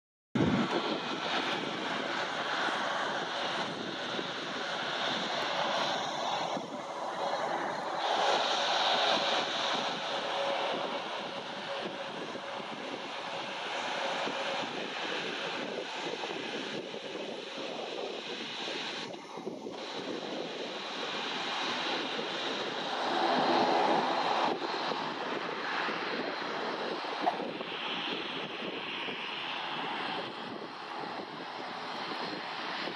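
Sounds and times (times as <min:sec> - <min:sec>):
jet engines at low thrust: 0:00.4 - 0:32.9
wind on microphone: 0:00.4 - 0:32.9.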